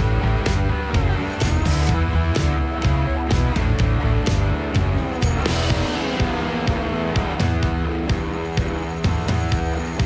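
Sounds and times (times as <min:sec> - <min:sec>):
guitar sliding down in pitch: 0:00.0 - 0:10.0
rock music: 0:00.0 - 0:10.0.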